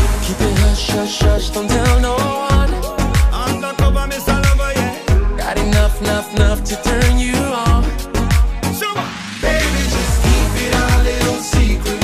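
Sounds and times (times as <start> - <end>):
kick drum beat: 0.0 - 8.6, 10.2 - 12.0
dance-pop music: 0.0 - 12.0.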